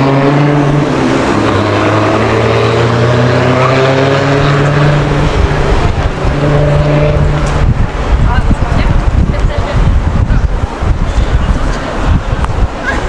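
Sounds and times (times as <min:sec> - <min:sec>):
vehicle engine running: 0:00.0 - 0:11.6
road and traffic noise: 0:00.0 - 0:13.0.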